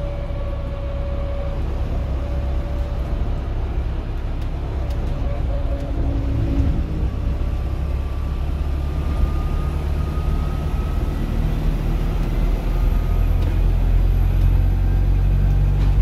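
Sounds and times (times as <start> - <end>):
bus drivetrain and road hum: 0.0 - 16.0.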